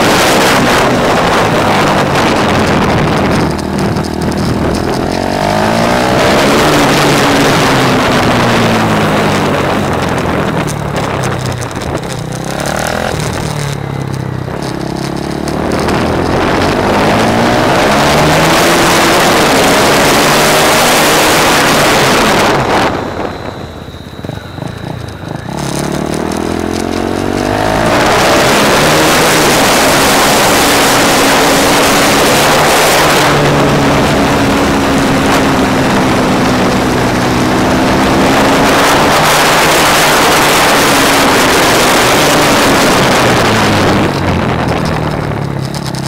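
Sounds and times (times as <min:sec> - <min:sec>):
motorcycle engine revving: 0:00.0 - 0:46.0
wind rush on microphone: 0:00.0 - 0:46.0.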